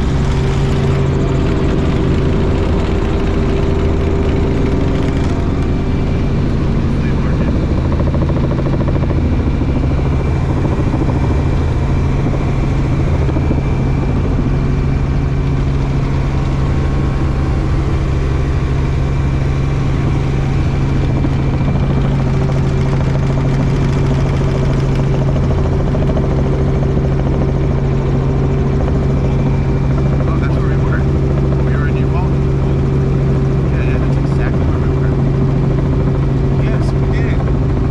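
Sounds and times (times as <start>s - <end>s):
helicopter rotor and turbine drone: 0.0s - 37.9s.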